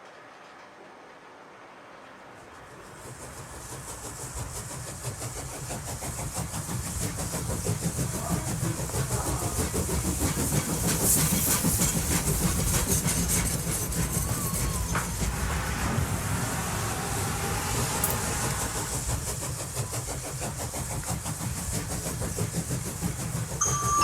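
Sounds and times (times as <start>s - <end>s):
model train motor humming: 3.0s - 15.4s, 16.6s - 24.0s.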